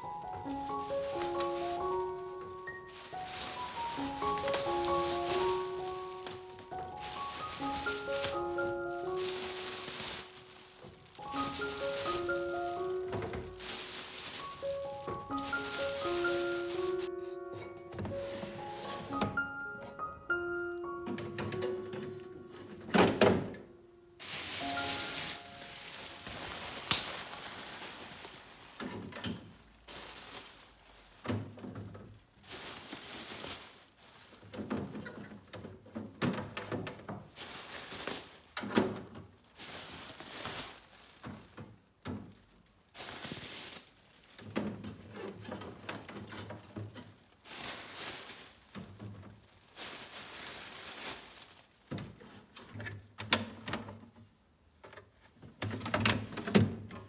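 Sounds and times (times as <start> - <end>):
rustles: 0.0 - 17.2, 24.2 - 52.9.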